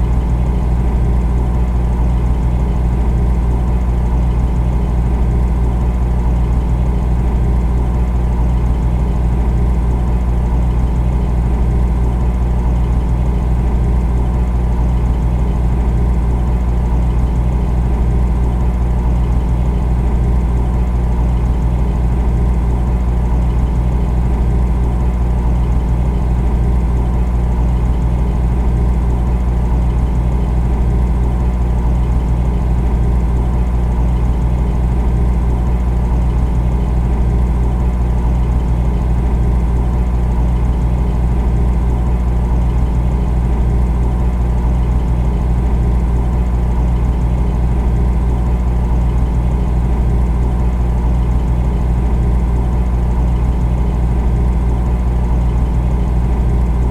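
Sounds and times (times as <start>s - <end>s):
refrigerator humming: 0.0s - 56.9s.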